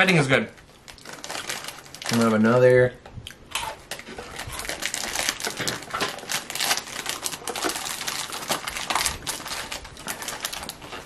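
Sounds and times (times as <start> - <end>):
biscuit crunching: 0.8 - 2.4, 3.3 - 11.0.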